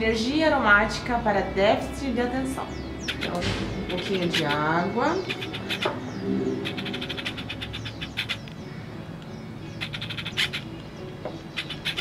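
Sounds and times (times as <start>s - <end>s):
small birds chirping: 2.1s - 12.0s.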